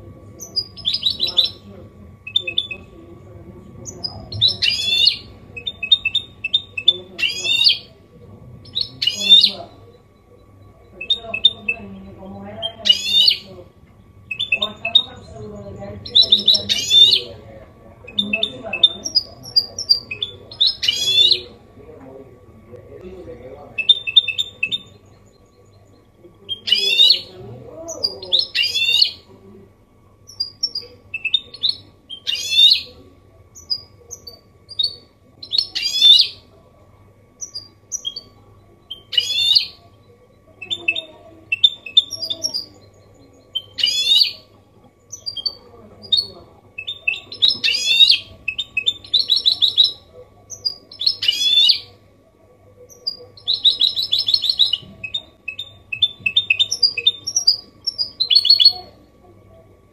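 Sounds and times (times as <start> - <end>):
finch singing: 0.3 - 21.6, 23.0 - 29.3, 30.2 - 36.5, 37.4 - 52.0, 52.8 - 59.1.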